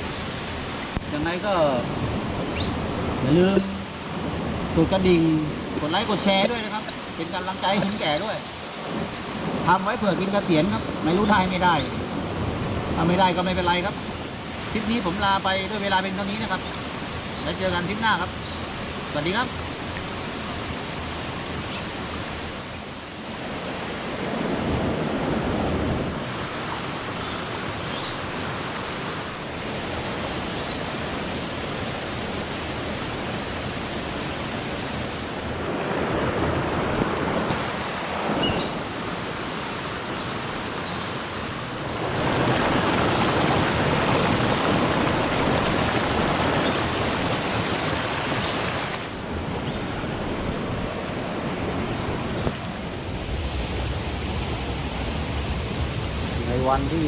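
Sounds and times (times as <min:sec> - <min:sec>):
stream and waterfall rushing: 0:00.0 - 0:57.0.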